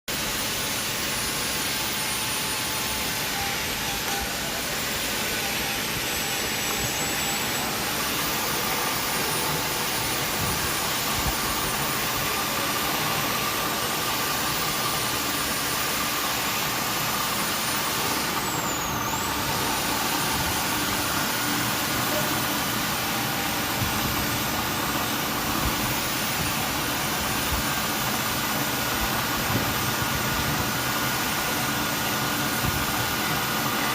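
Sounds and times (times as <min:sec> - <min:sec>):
milling machine whine: 0:00.1 - 0:33.9.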